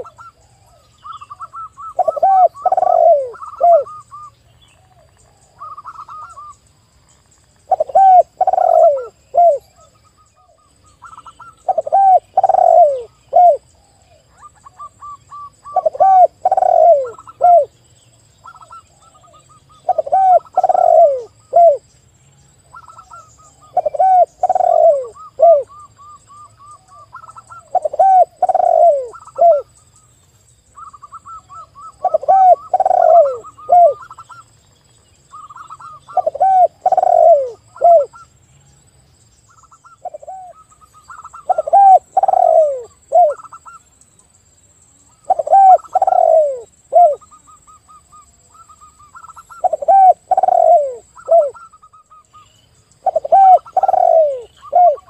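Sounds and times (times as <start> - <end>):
low falling dove coos: 0.0 - 6.5, 7.7 - 10.0, 11.0 - 13.6, 14.3 - 17.7, 18.5 - 21.8, 22.8 - 29.7, 30.8 - 34.4, 35.4 - 38.2, 40.0 - 43.8, 45.2 - 52.2, 53.0 - 55.0.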